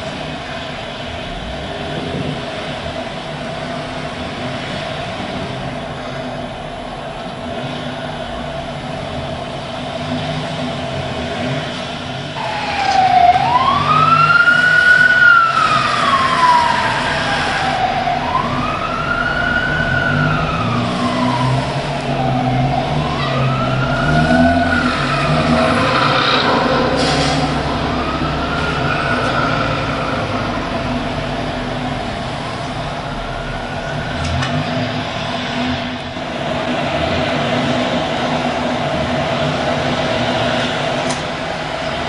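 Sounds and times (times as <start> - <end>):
emergency siren wailing: 0.0 - 42.0
vehicle engine rumble: 0.0 - 42.0.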